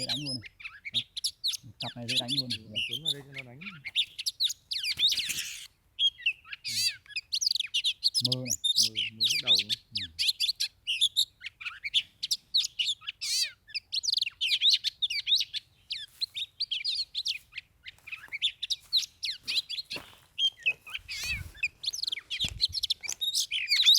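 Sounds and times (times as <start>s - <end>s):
birds singing whistles and warbles: 0.0s - 23.9s.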